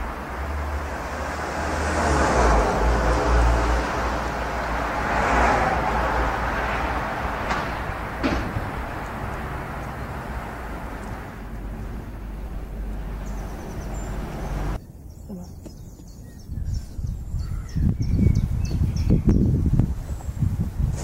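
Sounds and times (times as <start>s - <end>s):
road traffic noise: 0.0s - 21.0s
wind rumbling on microphone: 0.0s - 21.0s.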